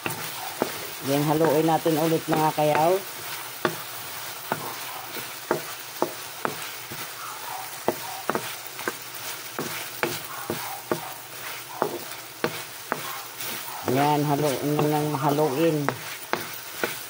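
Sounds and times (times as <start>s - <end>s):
spatula knocking and scraping pan: 0.0s - 7.1s, 7.8s - 17.0s
chicken sizzling in a pan: 0.0s - 17.0s.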